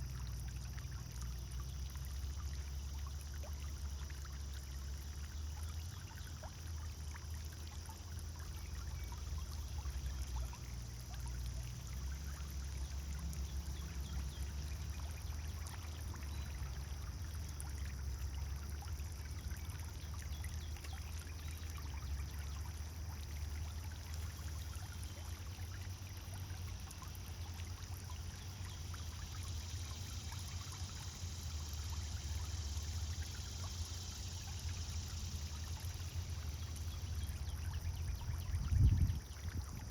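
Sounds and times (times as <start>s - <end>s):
fountain splashing into pond: 0.0s - 39.9s.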